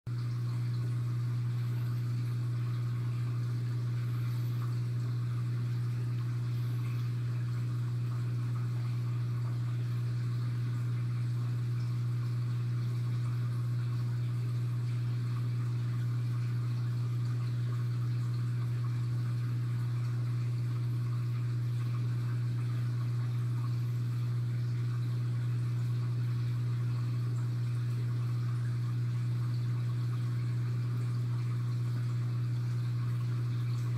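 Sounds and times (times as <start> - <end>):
aquarium pump hum: 0.1 - 33.9
faint water movement: 0.1 - 33.9.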